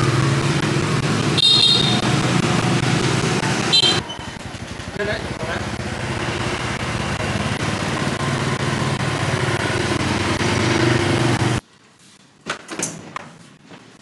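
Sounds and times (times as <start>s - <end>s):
motor scooter engine: 0.0s - 11.6s.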